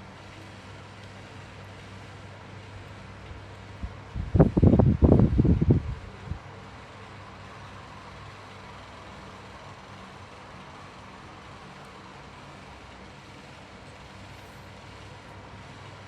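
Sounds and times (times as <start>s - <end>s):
low electric hum: 0.0s - 16.0s.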